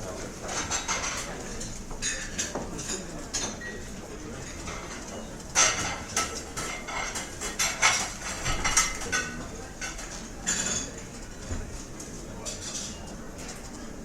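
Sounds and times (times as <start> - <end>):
restaurant hubbub: 0.0 - 14.0
dishes and cutlery clattering: 0.4 - 13.7.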